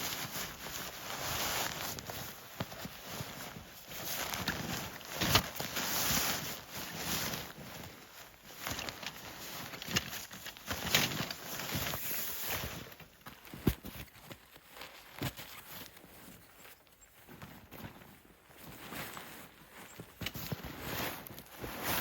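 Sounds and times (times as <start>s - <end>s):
footsteps crunching in snow: 0.0s - 22.0s
handling noises: 0.2s - 22.0s.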